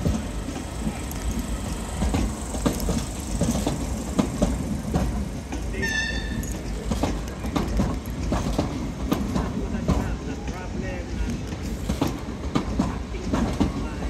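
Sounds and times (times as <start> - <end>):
train rumbling past: 0.0 - 14.0
wheels clacking over rail joints: 0.0 - 14.0.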